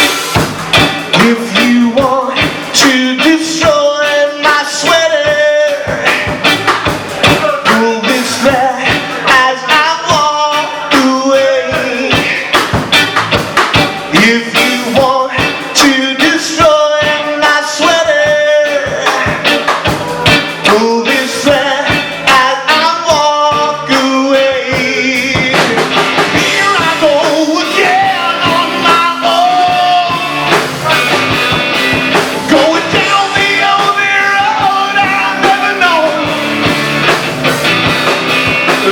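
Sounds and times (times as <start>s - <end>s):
bass: 0.0s - 38.9s
bending lead guitar melody: 0.0s - 38.9s
drums: 0.0s - 38.9s.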